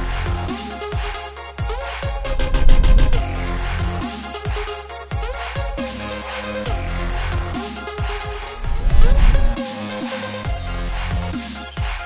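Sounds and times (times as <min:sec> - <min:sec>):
electronic music with bass and drums: 0:00.0 - 0:12.0.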